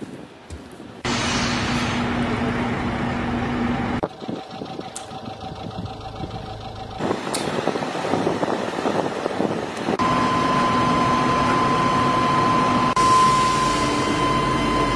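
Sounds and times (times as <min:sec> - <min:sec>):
heavy machinery diesel engines humming: 0:01.0 - 0:14.9.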